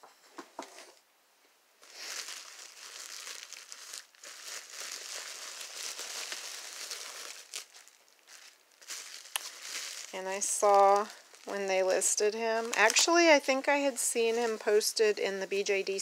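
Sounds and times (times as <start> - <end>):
bubble wrap crinkling: 1.8 - 16.0.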